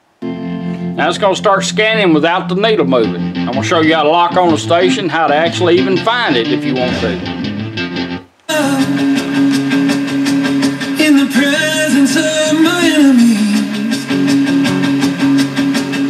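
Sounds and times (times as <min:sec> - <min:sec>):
car radio playing a song: 0:00.2 - 0:06.9, 0:08.5 - 0:16.0.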